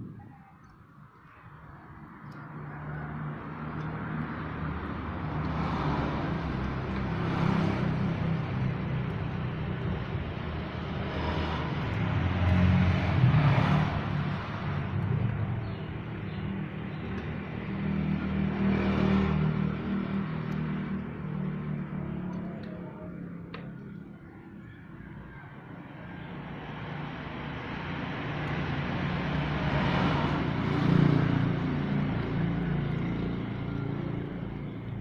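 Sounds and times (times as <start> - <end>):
vehicles passing by: 0.0 - 35.0.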